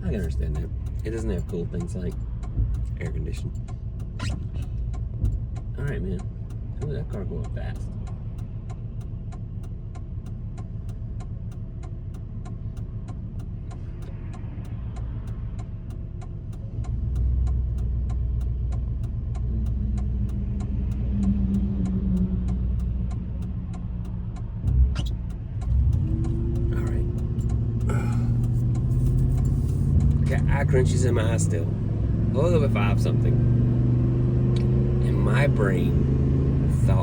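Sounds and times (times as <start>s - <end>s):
fast steady ticking: 0.0s - 33.2s
truck engine running: 0.0s - 34.2s.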